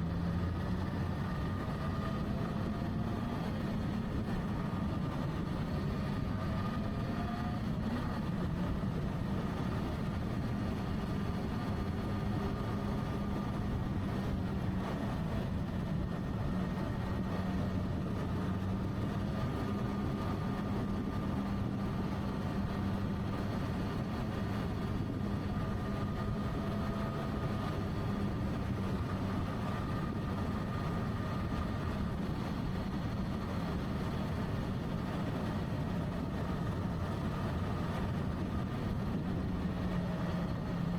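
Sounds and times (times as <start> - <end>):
steady rushing noise: 7.6 - 40.9.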